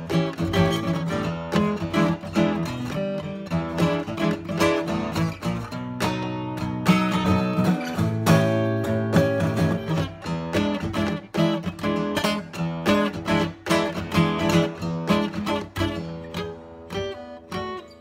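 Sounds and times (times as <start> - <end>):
acoustic guitar blues picking: 0.0 - 18.0.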